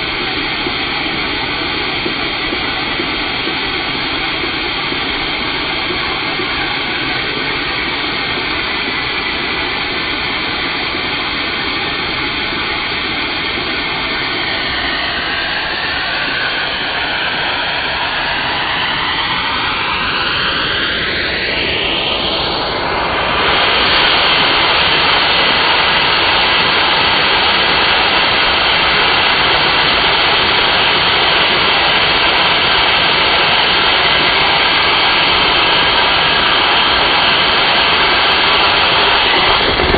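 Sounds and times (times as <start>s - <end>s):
vacuum cleaner suction whine: 0.0s - 39.9s.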